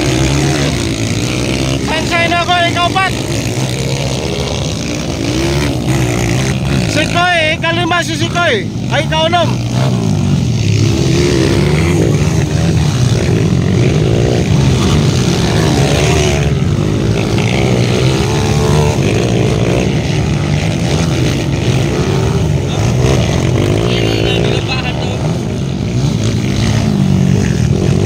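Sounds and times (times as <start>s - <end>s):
dirt bikes revving: 0.0s - 28.0s.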